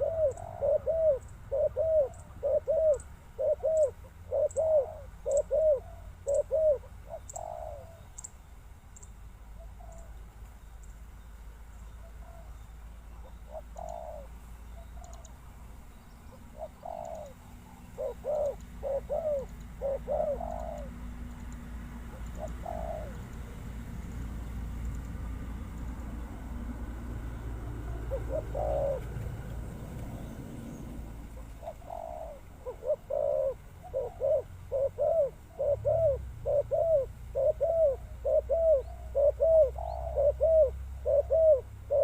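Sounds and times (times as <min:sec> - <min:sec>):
dove cooing: 0:00.0 - 0:08.2, 0:09.6 - 0:10.2, 0:12.0 - 0:15.4, 0:16.3 - 0:42.0.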